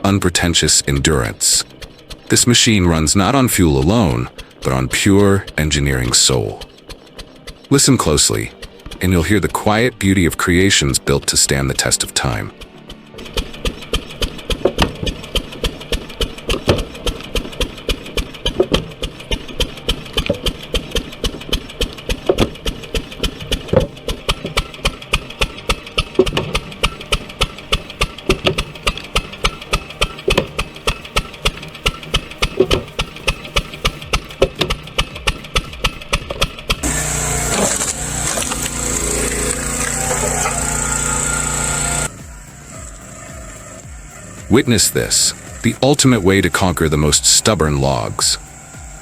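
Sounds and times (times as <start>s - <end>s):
old engine thumping rhythmically: 0.0s - 49.0s.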